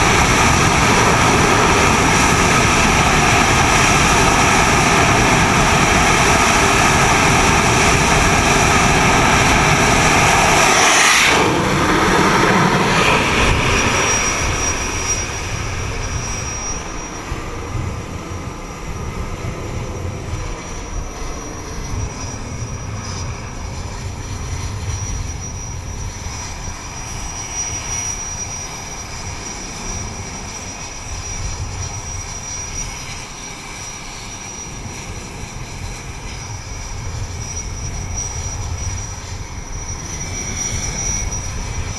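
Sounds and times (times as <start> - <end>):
high-pitched jet whine: 0.0 - 41.9
jet engines at full power: 0.0 - 41.9.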